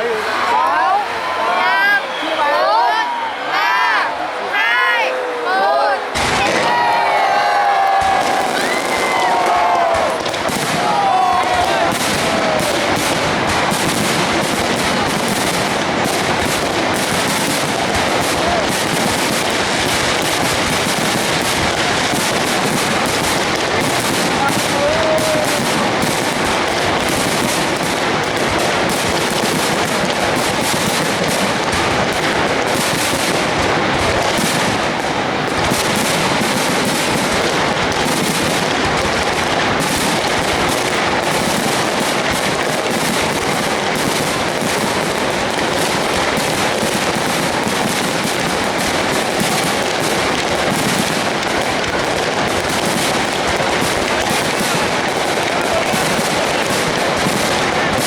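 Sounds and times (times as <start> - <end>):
fireworks crackling and popping: 6.0 - 58.0.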